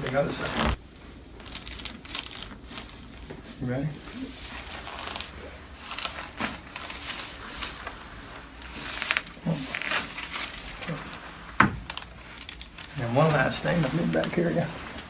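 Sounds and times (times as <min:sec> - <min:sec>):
body and clothing rustling: 0:00.0 - 0:15.0.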